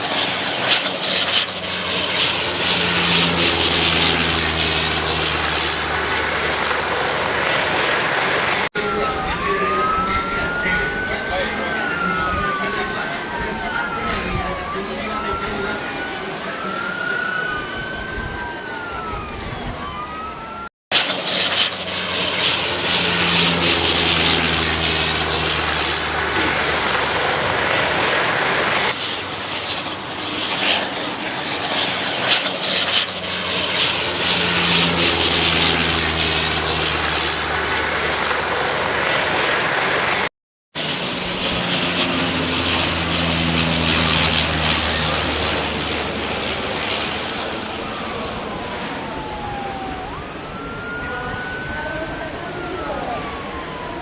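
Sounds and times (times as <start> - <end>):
sirens wailing: 0.0 - 54.0
turboprop engines droning: 0.0 - 54.0.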